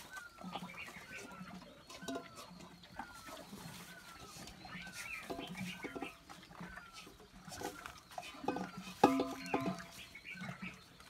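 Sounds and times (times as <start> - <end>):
farm animal calling: 0.0 - 11.0
small birds chirping: 0.0 - 11.0.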